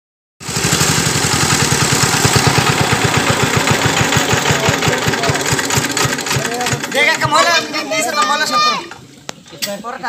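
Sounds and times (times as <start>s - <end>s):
engine running steadily: 0.4s - 9.4s.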